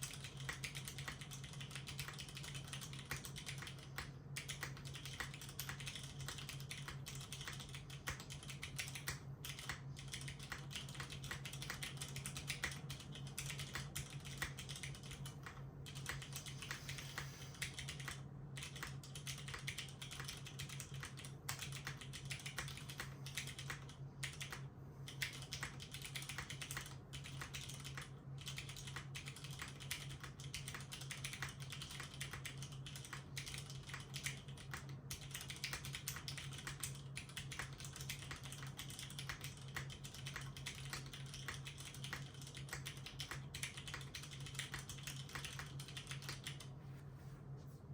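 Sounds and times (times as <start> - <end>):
fast typing on mechanical keyboard: 0.0 - 46.7.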